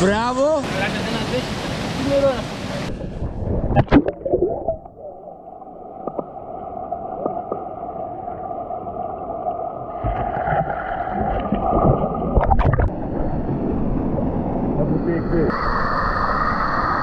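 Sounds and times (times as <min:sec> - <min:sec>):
underwater river rush: 0:00.0 - 0:17.0.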